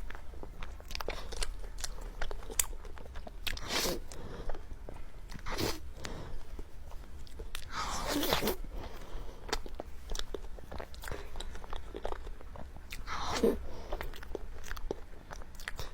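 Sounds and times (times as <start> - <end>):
person chewing soft cake: 0.0 - 15.9.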